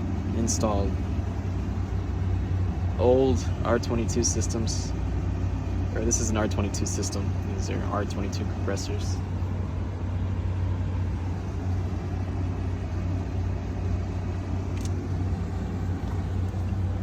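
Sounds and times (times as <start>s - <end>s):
hvac unit humming and rumbling: 0.0s - 17.0s.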